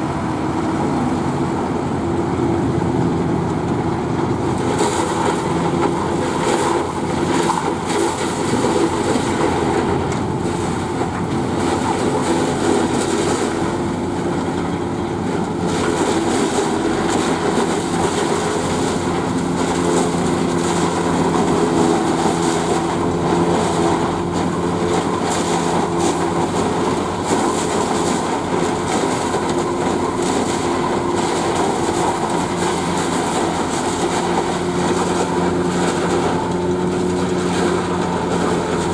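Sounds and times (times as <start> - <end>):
forage harvester chopping and rattling: 0.0 - 38.9
tractor engines droning: 0.0 - 38.9.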